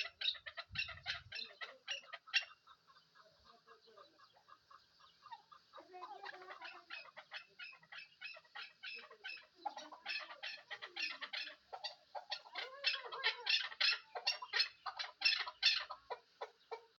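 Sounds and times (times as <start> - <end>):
partridge clucking call: 0.0 - 16.9.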